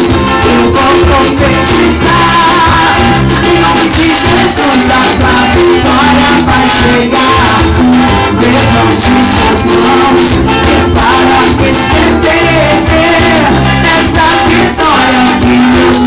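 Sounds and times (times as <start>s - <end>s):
band playing worship song: 0.0s - 16.0s
person singing: 0.0s - 16.0s.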